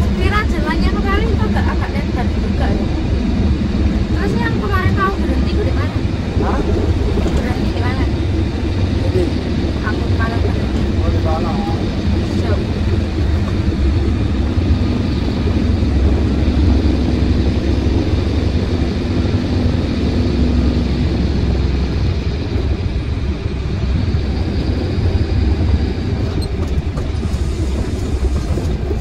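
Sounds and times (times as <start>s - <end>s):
truck engine drone: 0.0s - 29.0s.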